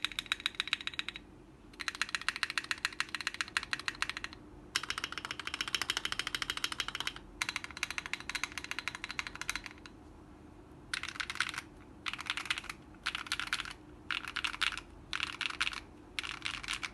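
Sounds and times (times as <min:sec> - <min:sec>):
fast typing on mechanical keyboard: 0:00.0 - 0:01.2, 0:01.8 - 0:09.9, 0:11.0 - 0:16.9.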